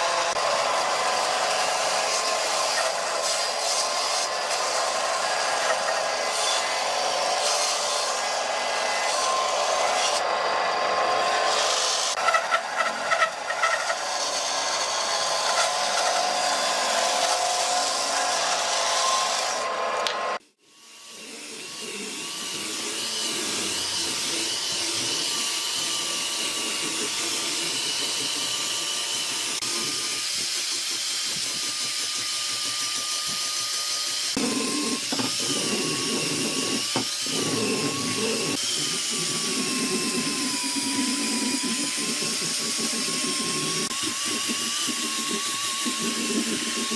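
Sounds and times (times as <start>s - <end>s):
power tool cutting wood: 0.0s - 46.9s.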